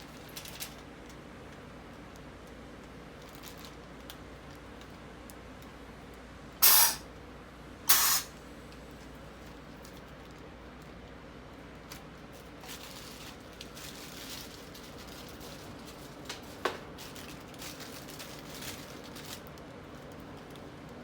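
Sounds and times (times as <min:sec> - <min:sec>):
small clicks and rustles: 0:00.0 - 0:06.2, 0:08.7 - 0:21.0.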